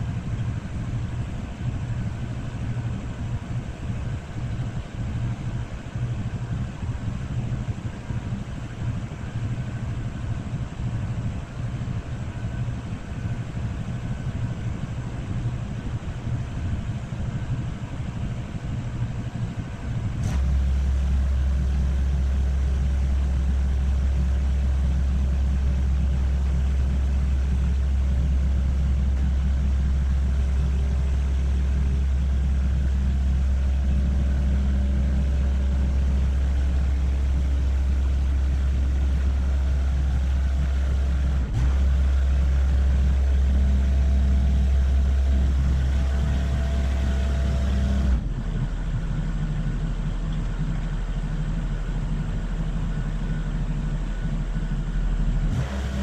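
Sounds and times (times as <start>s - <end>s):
low engine-like rumble: 0.0s - 56.0s.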